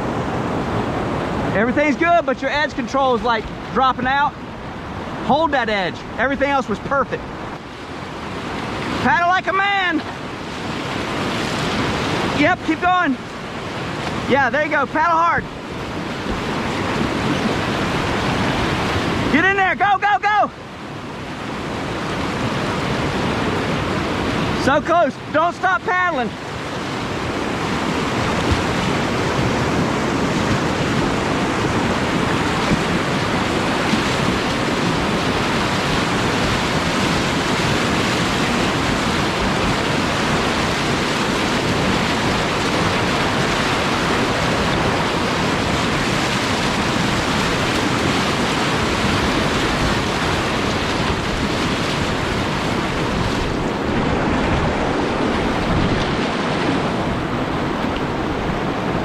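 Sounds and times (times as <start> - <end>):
whitewater rapid rushing: 0.0 - 59.0.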